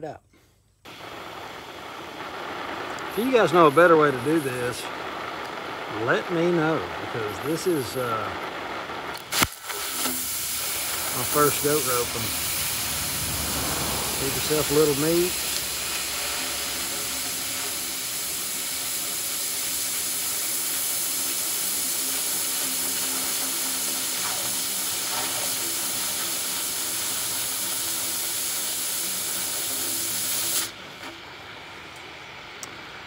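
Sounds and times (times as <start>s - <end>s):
cutting torch hissing: 0.9s - 31.4s.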